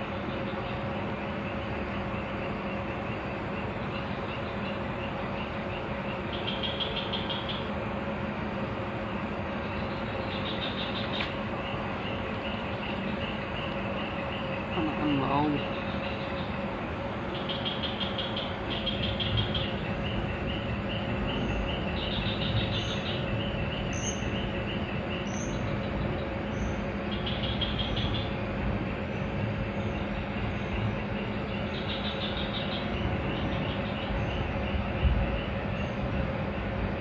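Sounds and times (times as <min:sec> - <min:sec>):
faint hum: 0:00.0 - 0:37.0
insects trilling: 0:00.0 - 0:37.0.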